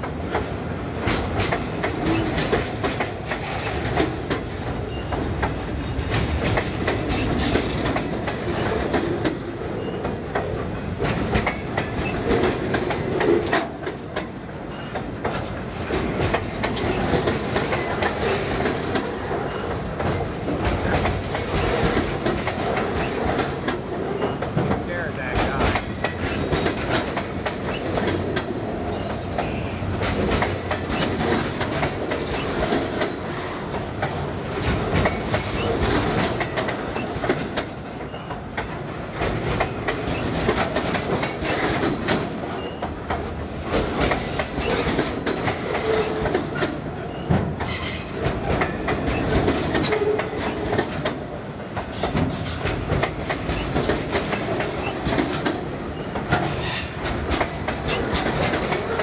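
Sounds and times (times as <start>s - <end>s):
freight train wheels rumbling: 0.0s - 59.0s
wheels clacking over rail joints: 0.0s - 59.0s.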